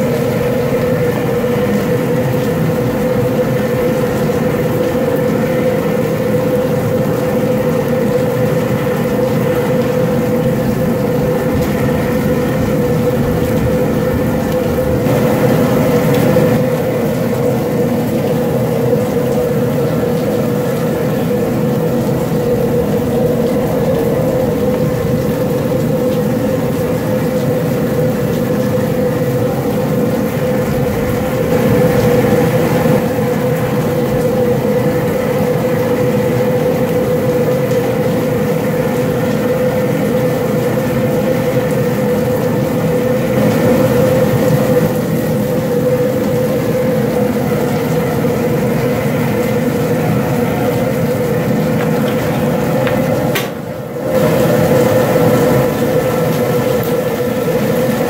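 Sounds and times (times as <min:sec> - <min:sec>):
propane burner flame rushing: 0:00.0 - 0:58.0.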